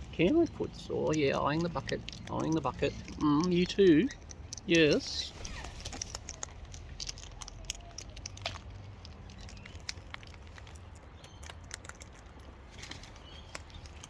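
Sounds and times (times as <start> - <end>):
birds cracking seed with beaks: 0.0 - 14.0
claws shifting: 0.0 - 14.0.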